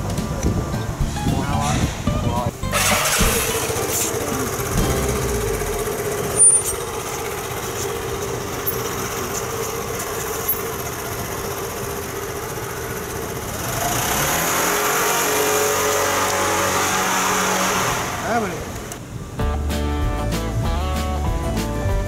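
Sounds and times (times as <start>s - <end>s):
motorcycle engine running: 0.0s - 18.4s.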